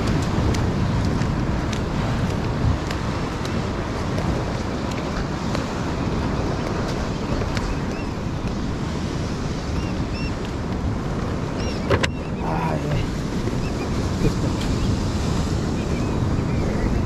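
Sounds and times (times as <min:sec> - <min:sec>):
ocean surf rushing: 0:00.0 - 0:17.0
wind on microphone: 0:00.0 - 0:17.0.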